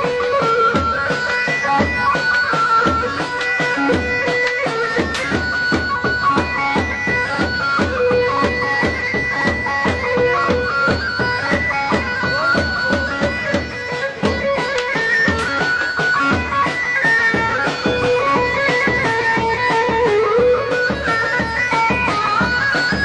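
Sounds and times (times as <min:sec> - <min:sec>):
steady drum beat: 0:00.0 - 0:23.0.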